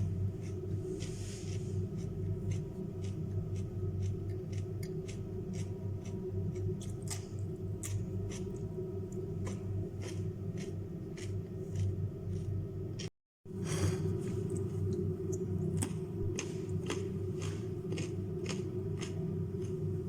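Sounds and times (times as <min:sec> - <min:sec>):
crunchy vegetables being chewed: 0:00.0 - 0:13.1, 0:13.7 - 0:20.0
low hum: 0:00.0 - 0:20.0.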